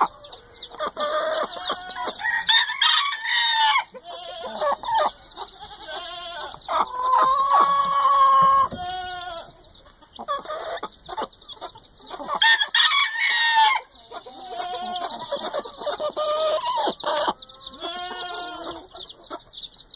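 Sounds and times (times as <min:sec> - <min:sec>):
chickens clucking: 0:00.0 - 0:19.9
chicks peeping: 0:00.0 - 0:19.9.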